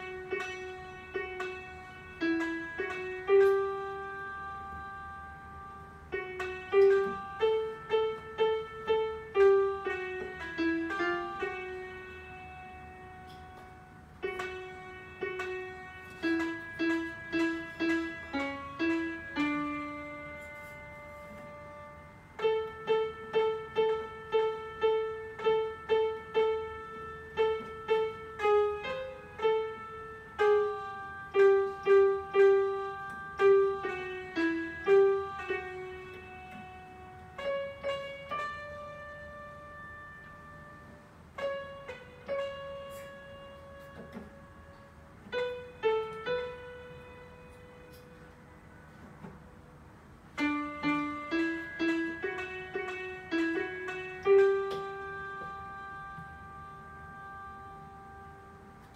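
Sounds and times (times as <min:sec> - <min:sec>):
electronic keyboard piano melody: 0:00.0 - 0:58.9.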